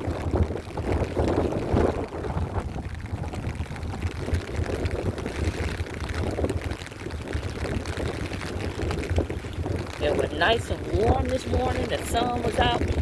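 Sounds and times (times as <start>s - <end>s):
rain falling on umbrella: 0.0s - 13.0s
wind buffeting microphone: 0.0s - 13.0s.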